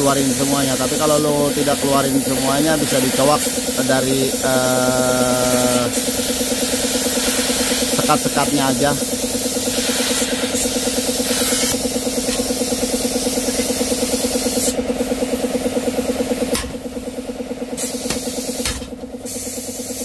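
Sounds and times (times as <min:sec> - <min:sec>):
gas cutting torch hissing: 0:00.0 - 0:14.8, 0:17.8 - 0:20.0
steady mechanical hum: 0:00.0 - 0:20.0.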